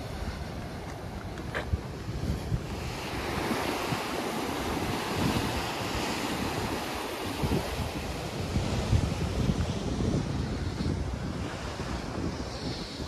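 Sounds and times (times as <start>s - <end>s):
sea waves washing ashore: 0.0s - 13.0s
wind buffeting microphone: 0.0s - 13.0s.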